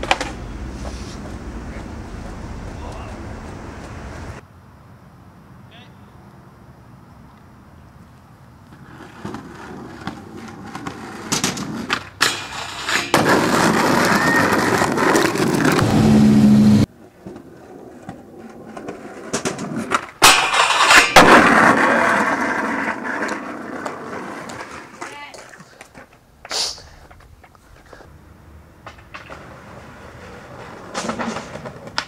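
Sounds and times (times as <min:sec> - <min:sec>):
skateboard clacks: 0:00.0 - 0:04.3, 0:08.7 - 0:15.8, 0:17.0 - 0:28.1, 0:28.8 - 0:32.0
skateboard wheels rolling on concrete: 0:00.0 - 0:32.0.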